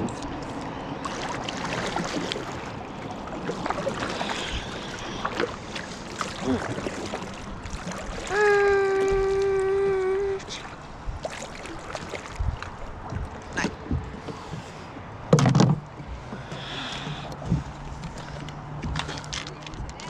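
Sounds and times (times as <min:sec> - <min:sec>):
paddle splashing in water: 0:00.1 - 0:20.0.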